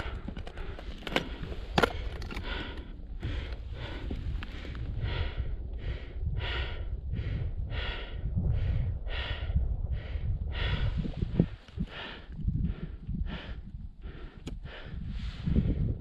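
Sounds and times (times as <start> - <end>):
low rumble: 0.0 - 16.0
person breathing hard: 0.0 - 16.0.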